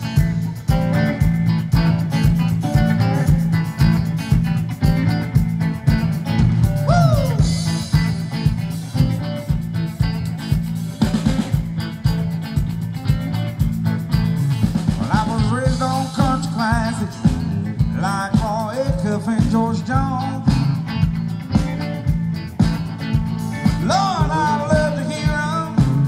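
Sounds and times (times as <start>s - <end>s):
bass: 0.0s - 26.0s
electric guitar: 0.0s - 26.0s
steady drum beat: 0.0s - 26.0s.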